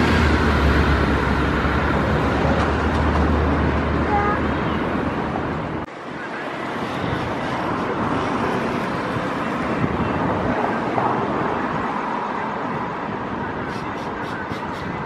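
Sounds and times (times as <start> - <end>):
steady vehicle noise: 0.0 - 15.0.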